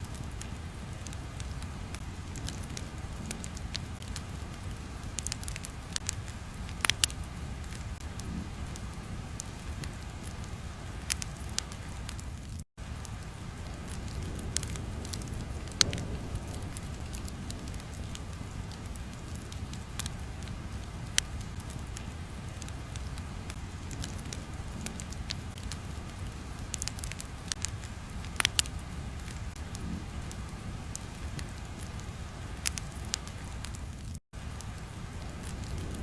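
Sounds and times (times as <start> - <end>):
fire crackling: 0.0 - 36.0.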